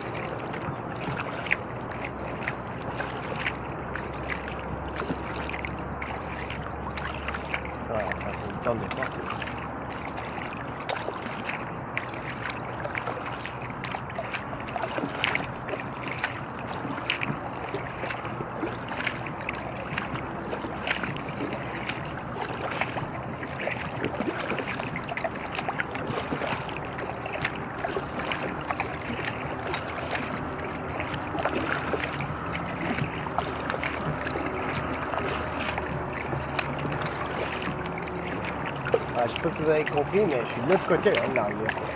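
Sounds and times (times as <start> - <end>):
paddle splashing: 0.0 - 41.9
water lapping at hull: 0.0 - 41.9.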